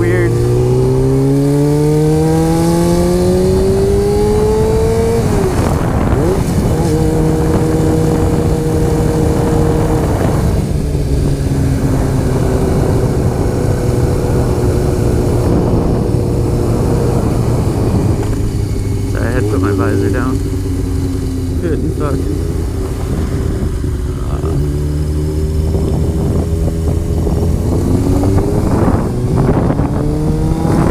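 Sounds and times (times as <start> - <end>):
wind noise on microphone: 0.0 - 21.6, 22.4 - 30.9
motorcycle engine accelerating: 0.0 - 30.9.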